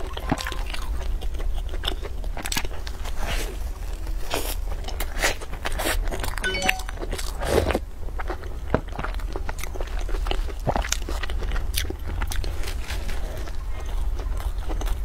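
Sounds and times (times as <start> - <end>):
crunchy chewing: 0.0 - 6.4, 7.4 - 15.0.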